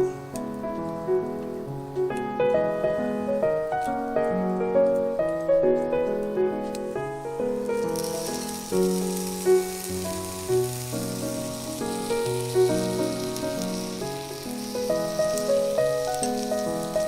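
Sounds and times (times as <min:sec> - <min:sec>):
gentle instrumental music: 0:00.0 - 0:17.0
steady high hiss: 0:00.0 - 0:17.0.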